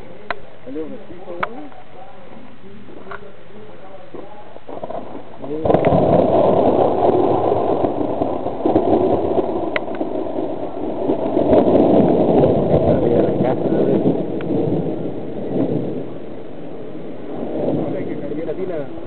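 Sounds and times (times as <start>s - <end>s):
rolling thunder: 3.0s - 19.0s.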